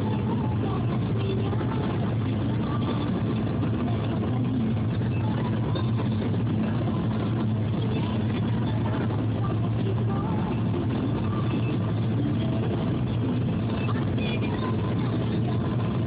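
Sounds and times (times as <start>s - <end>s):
car engine hum: 0.0s - 16.0s
road noise inside car: 0.0s - 16.0s.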